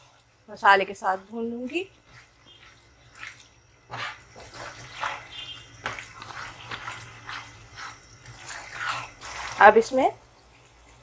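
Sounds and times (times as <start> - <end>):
meat sizzling in a pan: 0.0 - 11.0
spatula scraping pan: 1.5 - 11.0.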